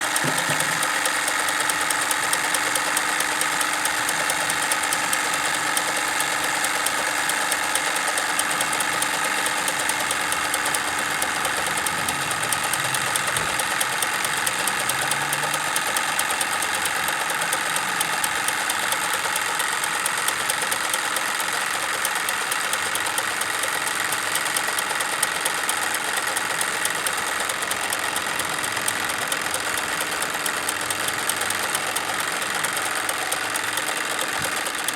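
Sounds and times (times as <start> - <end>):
toy sawmill parts clattering: 0.0 - 34.9
toy steam engine chuffing: 0.0 - 34.9.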